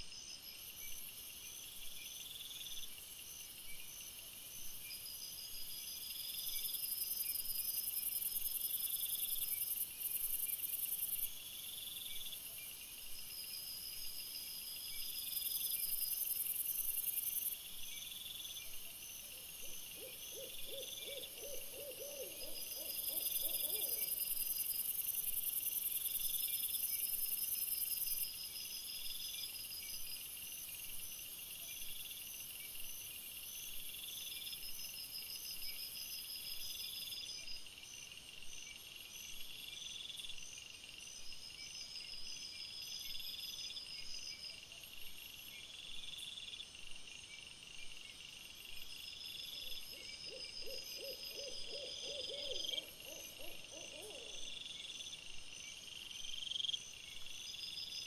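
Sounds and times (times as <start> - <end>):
night insects trilling: 0.0 - 58.0.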